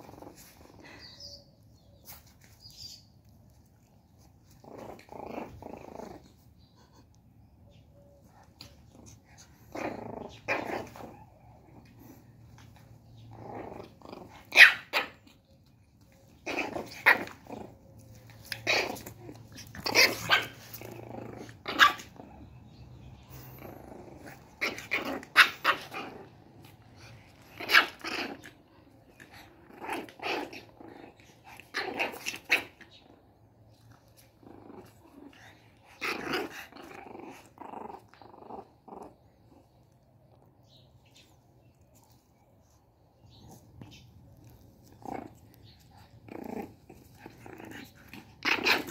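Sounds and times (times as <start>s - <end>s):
puppy growling: 0.0s - 1.4s, 3.8s - 7.5s, 8.4s - 48.9s
dogs yapping and barking: 7.7s - 39.6s, 40.7s - 48.9s.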